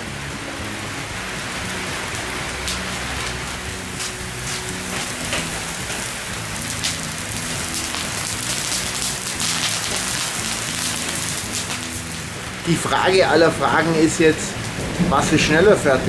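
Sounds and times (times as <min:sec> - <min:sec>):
meat sizzling on a grill: 0:00.1 - 0:15.8
fat crackling and popping: 0:01.2 - 0:16.0.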